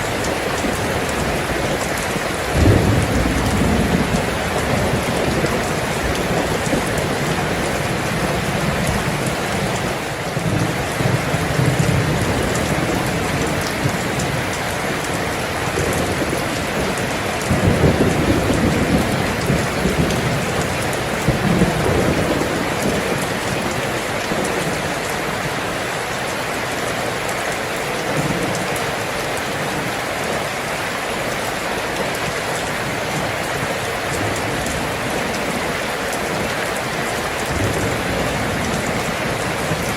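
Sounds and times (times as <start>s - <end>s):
thunder rumbling: 0.0s - 25.6s, 31.6s - 39.9s
steady rain: 0.0s - 39.9s.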